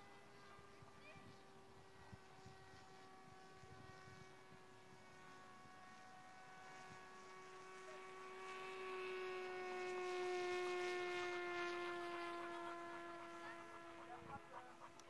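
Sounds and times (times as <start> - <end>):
model plane motor buzzing: 0.0 - 15.0.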